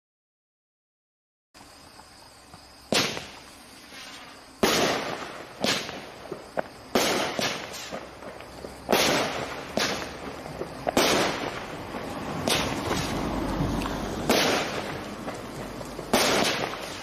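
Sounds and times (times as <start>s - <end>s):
firework bangs: 2.9s - 17.0s.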